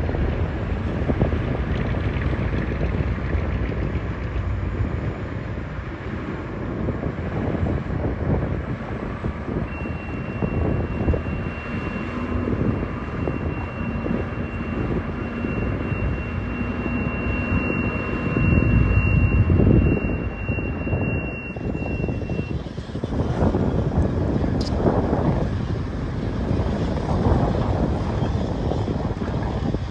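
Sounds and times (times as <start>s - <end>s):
bulldozer engine rumbling: 0.0s - 29.9s.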